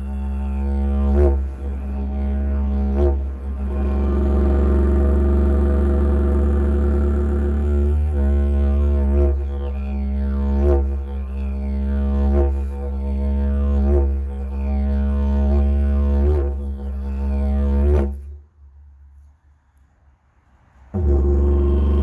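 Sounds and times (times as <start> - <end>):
didgeridoo drone: 0.0 - 18.3, 20.9 - 22.0.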